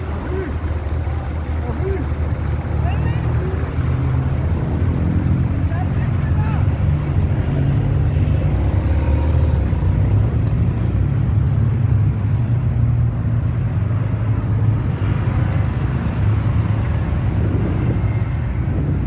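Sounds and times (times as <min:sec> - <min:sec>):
motorcycles and cars rumbling past: 0:02.8 - 0:19.0.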